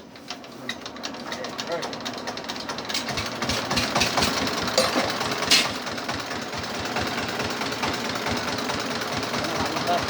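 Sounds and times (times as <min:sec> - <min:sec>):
diesel engine chugging: 0:00.0 - 0:10.0
mechanical rattle and clatter: 0:00.1 - 0:10.0.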